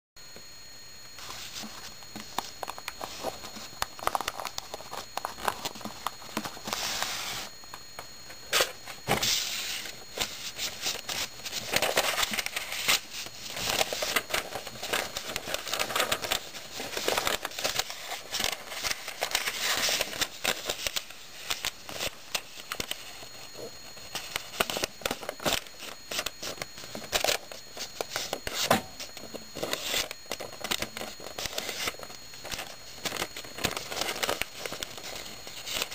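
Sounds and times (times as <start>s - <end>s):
paper rustling and crinkling: 1.2s - 7.6s, 8.5s - 35.9s.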